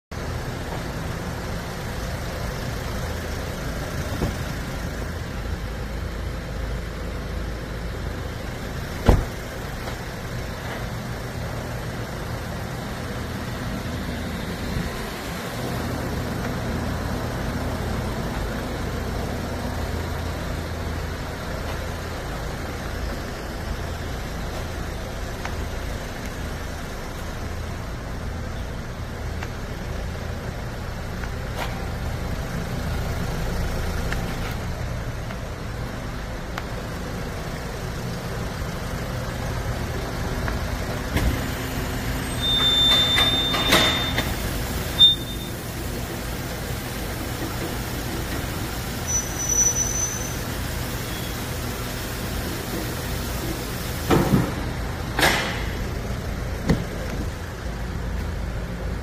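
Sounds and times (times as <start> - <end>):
vehicle engine idling: 0.1 - 59.0.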